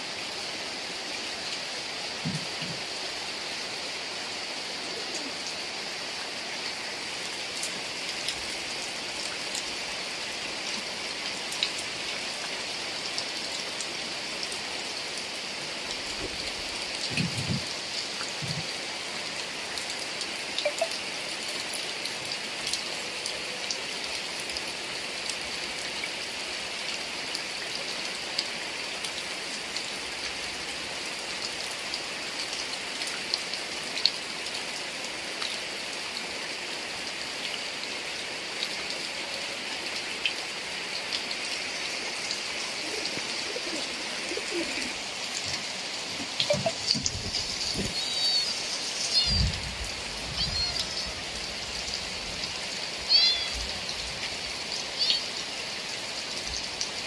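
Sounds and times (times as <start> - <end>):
heavy rain hissing: 0.0 - 57.0
raindrops ticking close by: 1.4 - 3.4, 6.6 - 36.3, 37.0 - 57.0.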